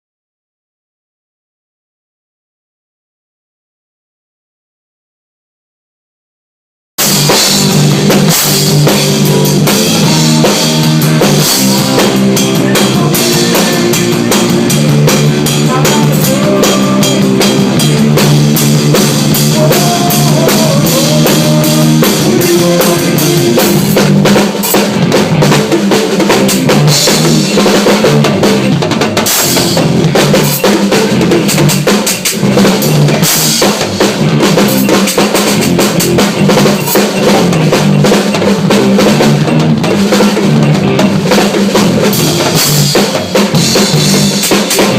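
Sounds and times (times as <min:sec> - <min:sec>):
band backing: 0:07.0 - 0:44.9
drum kit solo: 0:07.0 - 0:44.9.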